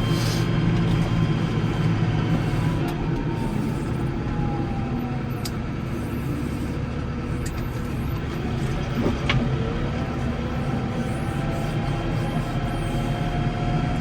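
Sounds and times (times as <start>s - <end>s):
tractor engine running under load: 0.0s - 14.0s.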